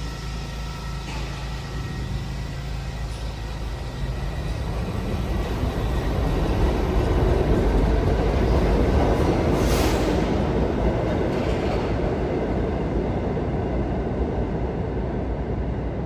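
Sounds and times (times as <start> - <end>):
subway train rumbling on rails: 0.0 - 16.0.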